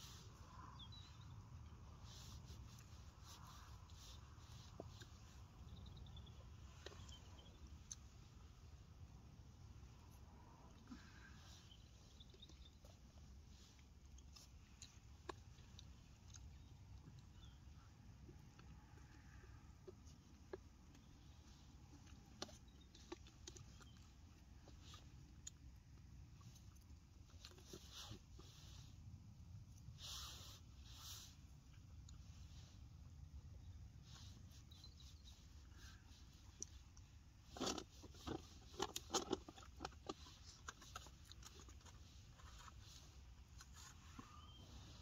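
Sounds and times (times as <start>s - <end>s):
low steady rumble: 0.0s - 45.0s.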